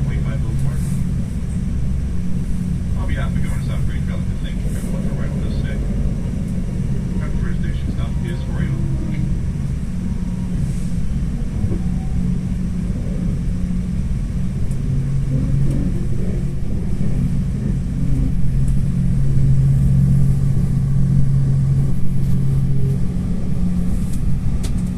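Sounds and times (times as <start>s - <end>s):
diesel locomotive engine drone: 0.0s - 24.9s.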